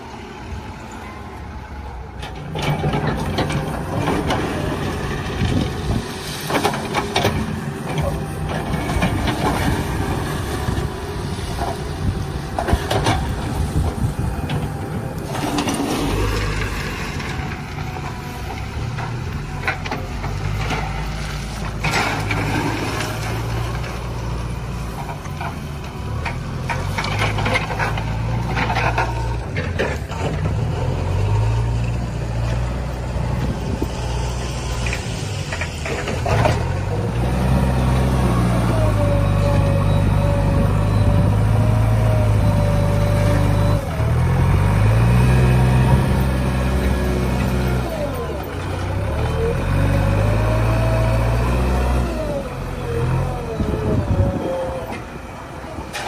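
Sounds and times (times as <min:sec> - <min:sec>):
diesel machinery engine: 0:00.0 - 0:56.0.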